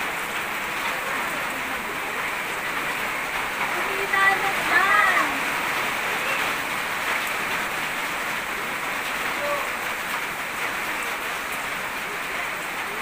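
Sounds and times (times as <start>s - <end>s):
rain falling on concrete: 0.0s - 13.0s.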